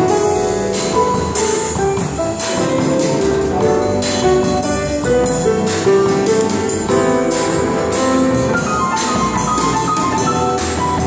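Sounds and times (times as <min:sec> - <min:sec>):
drum beat and cymbals: 0:00.0 - 0:11.0
piano music: 0:00.0 - 0:11.0.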